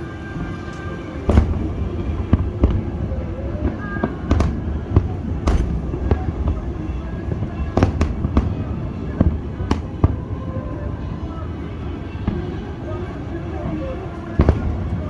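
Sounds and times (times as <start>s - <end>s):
fireworks cracking and booming: 0.2s - 15.0s.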